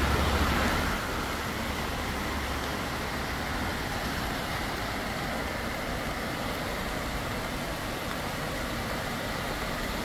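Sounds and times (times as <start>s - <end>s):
low rumble of road traffic: 0.0s - 10.0s
stream water pouring over weir: 0.0s - 10.0s.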